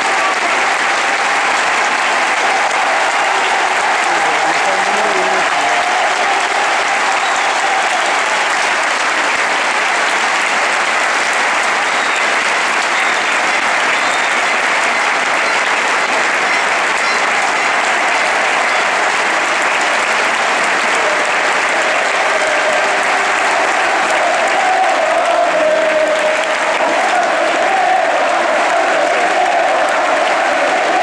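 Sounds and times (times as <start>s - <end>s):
crowd applauding: 0.0s - 31.0s.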